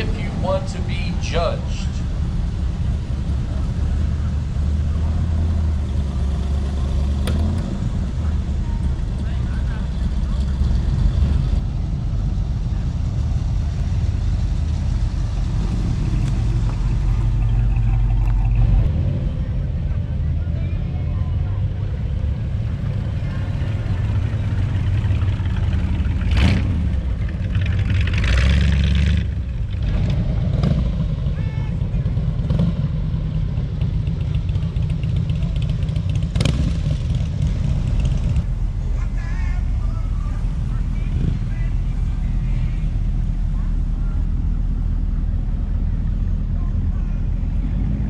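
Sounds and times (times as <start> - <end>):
car engine low rumble: 0.0 - 48.0.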